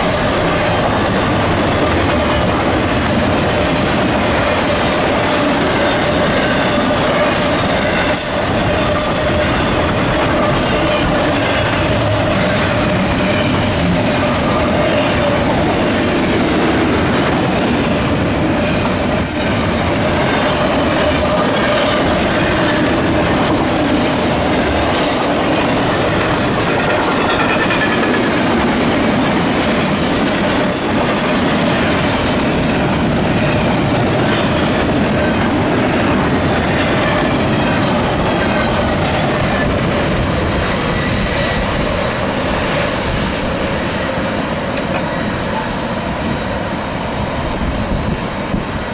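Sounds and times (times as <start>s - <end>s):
freight train wheels clattering: 0.0s - 46.3s.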